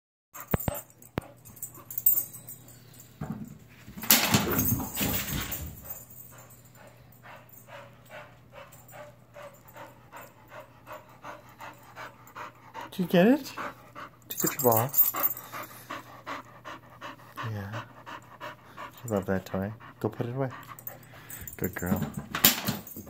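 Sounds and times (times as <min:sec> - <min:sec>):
dog panting: 0:00.4 - 0:03.0, 0:04.6 - 0:23.0.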